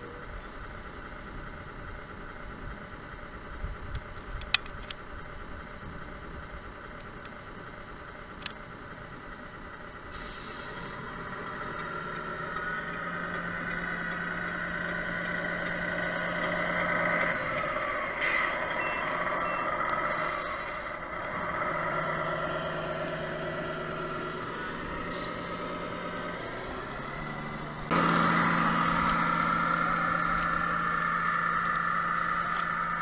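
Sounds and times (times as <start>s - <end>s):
rc truck mechanical whine: 0.0s - 33.0s.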